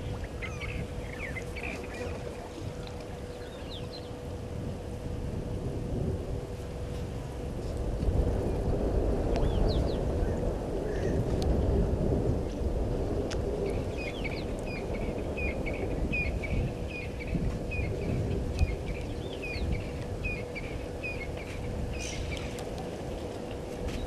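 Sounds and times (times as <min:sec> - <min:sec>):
faint hum: 0:00.0 - 0:24.0
low rumble: 0:00.0 - 0:24.0.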